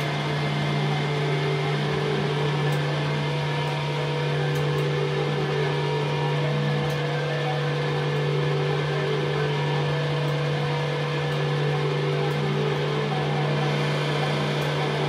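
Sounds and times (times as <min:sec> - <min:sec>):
drone music low hum: 0:00.0 - 0:15.0.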